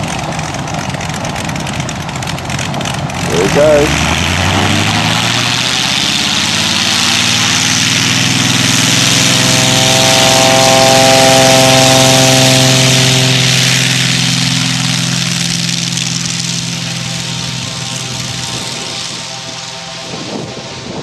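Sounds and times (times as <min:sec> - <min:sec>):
plane engine and propeller running: 0:00.0 - 0:21.0.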